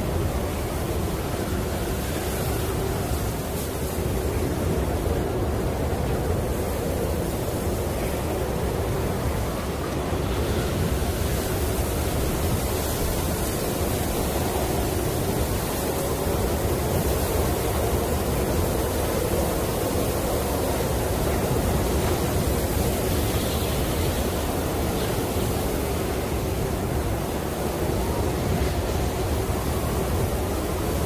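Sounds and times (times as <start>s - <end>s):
snowstorm wind blowing: 0.0s - 31.0s.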